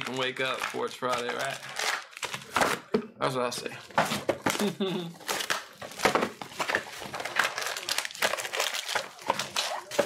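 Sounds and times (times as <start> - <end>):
foil wrappers crinkling: 0.0 - 2.6, 4.4 - 10.0.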